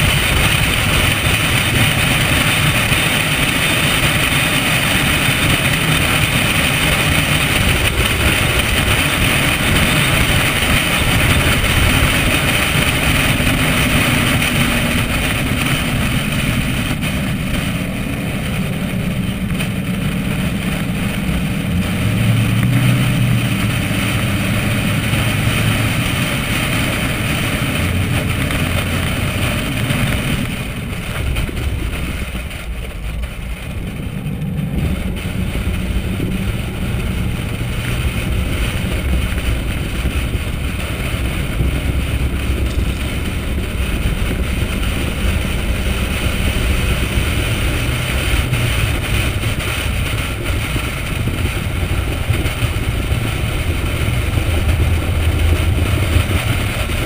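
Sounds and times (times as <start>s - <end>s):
car engine running: 0.0s - 57.0s
wind and road noise: 0.0s - 57.0s.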